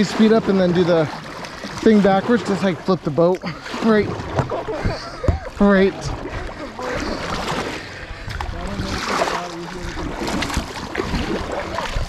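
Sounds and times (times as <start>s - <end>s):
kayak paddles splashing in water: 0.0s - 12.0s.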